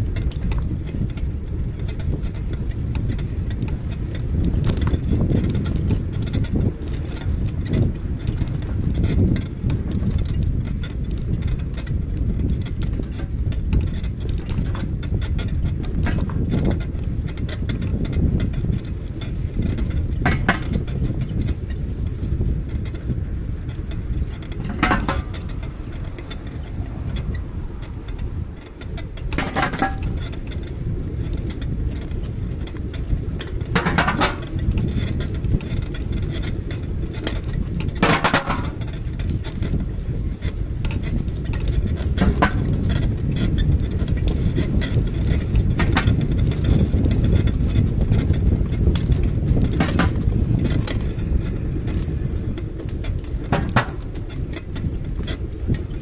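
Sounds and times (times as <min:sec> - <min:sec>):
road rumble: 0:00.0 - 0:56.0
wind buffeting microphone: 0:00.0 - 0:56.0.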